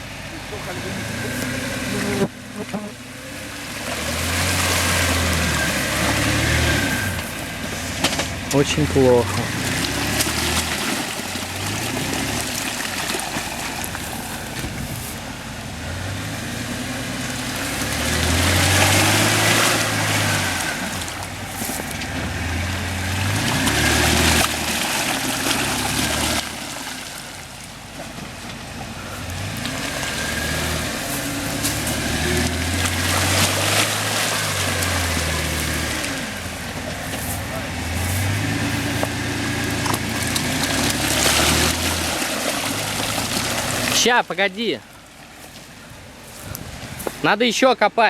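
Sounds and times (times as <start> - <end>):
suv engine revving: 0.0 - 47.2
wheels spraying mud: 0.0 - 48.0.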